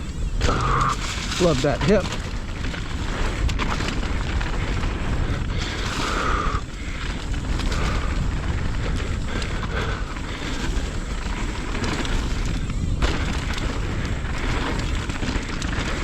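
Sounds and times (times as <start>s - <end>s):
bike clicks and knocks: 0.0s - 16.0s
tyres rolling over dirt: 0.0s - 16.0s
wind rumbling on microphone: 0.0s - 16.0s.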